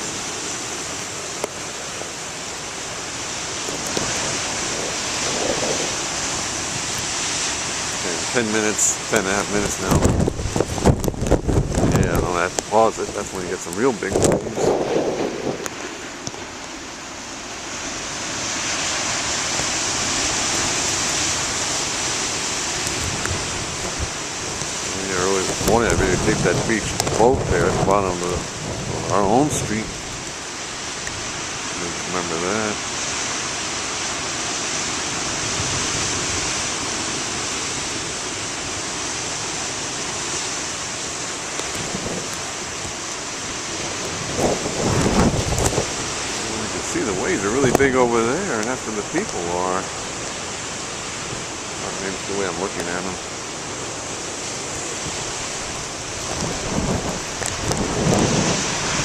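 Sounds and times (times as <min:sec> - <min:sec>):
storm surf breaking: 0:00.0 - 0:59.0.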